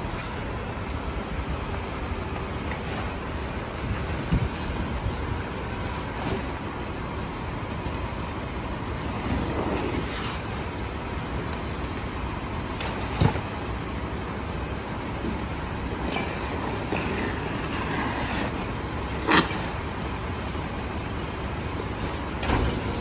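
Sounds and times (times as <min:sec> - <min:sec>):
garbage truck engine running: 0:00.0 - 0:23.0.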